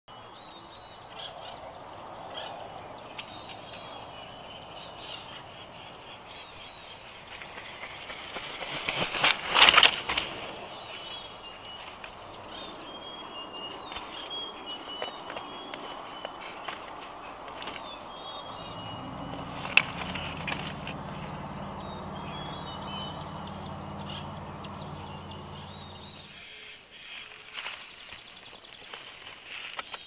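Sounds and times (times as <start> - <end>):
small birds singing: 0.1 - 30.0
eagle wings flapping: 1.3 - 26.4.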